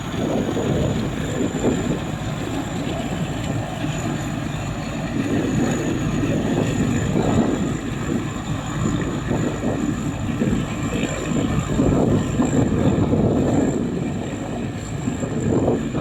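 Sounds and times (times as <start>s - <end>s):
combine harvester engine rumble: 0.0s - 16.0s.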